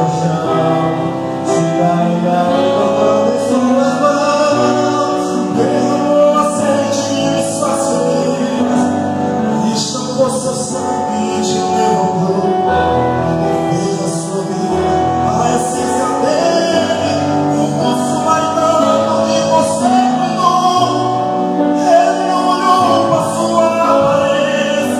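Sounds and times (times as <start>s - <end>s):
men singing gospel song: 0.0s - 24.9s.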